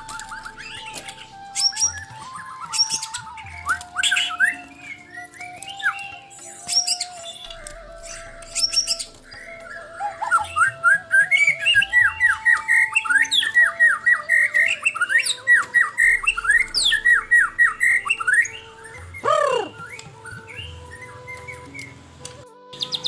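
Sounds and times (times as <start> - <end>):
bird singing whistled notes: 0.0 - 23.0.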